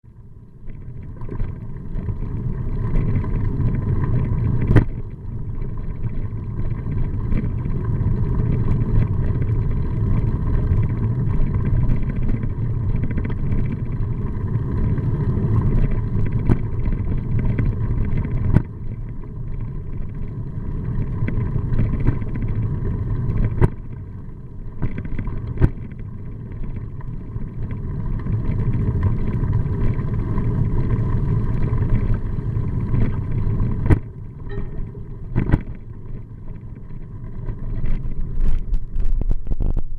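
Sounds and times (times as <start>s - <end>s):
faint steady hum: 0.0s - 39.9s
vehicle rumble: 0.1s - 39.9s.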